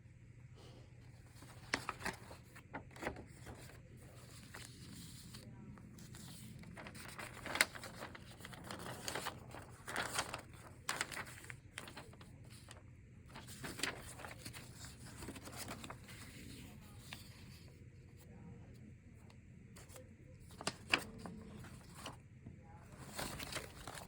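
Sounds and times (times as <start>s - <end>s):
low room hum: 0.0s - 24.0s
paper rustling: 1.1s - 18.3s, 19.8s - 24.0s.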